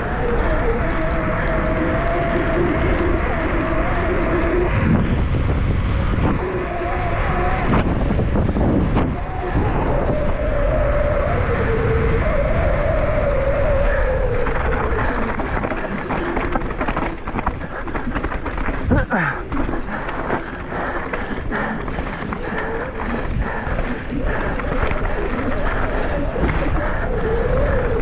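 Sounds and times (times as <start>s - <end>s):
bike rattling on trail: 0.0s - 28.0s
wavering whine: 0.0s - 28.0s
wind rushing over microphone: 0.0s - 28.0s.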